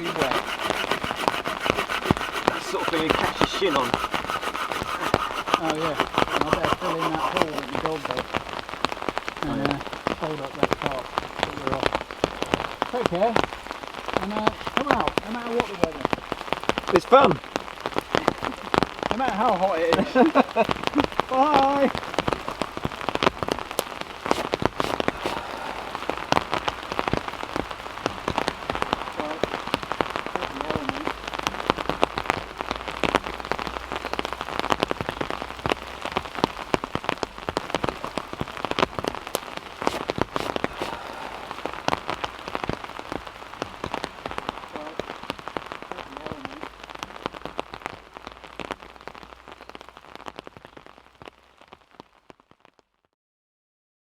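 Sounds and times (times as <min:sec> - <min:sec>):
heavy rain: 0:00.0 - 0:52.6.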